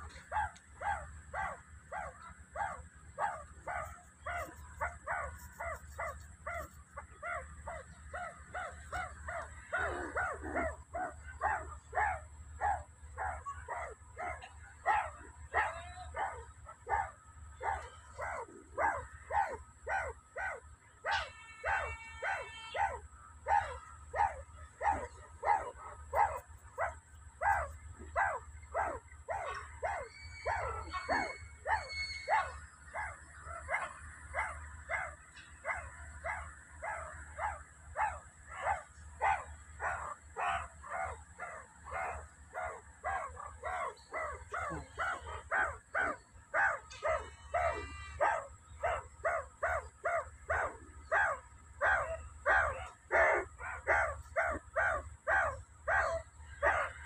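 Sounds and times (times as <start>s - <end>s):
meerkats barking: 0.0s - 57.0s.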